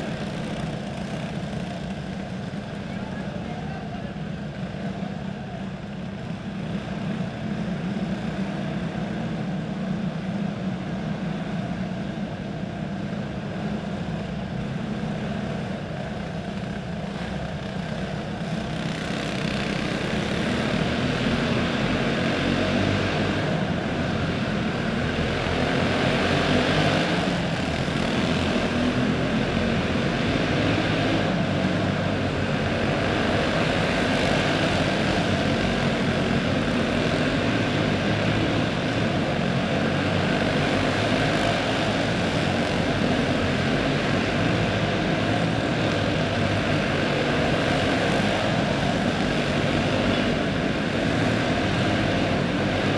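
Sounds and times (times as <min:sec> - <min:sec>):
kart engines buzzing: 0:00.0 - 0:52.9.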